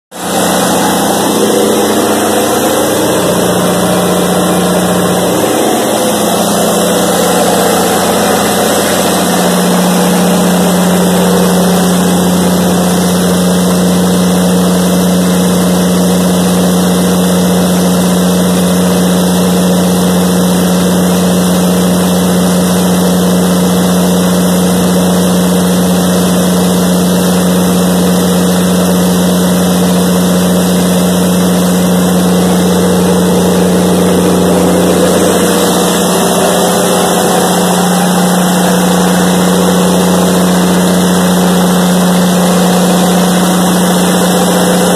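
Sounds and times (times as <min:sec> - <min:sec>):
diesel generator running: 0:00.0 - 0:44.9.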